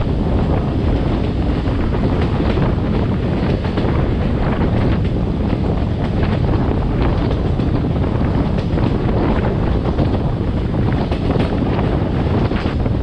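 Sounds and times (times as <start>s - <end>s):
train coach rumbling on track: 0.0s - 13.0s
wind buffeting microphone: 0.0s - 13.0s.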